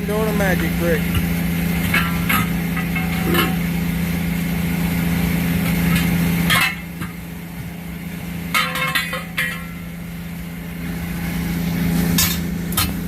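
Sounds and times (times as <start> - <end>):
engine idling hum: 0.0 - 13.0.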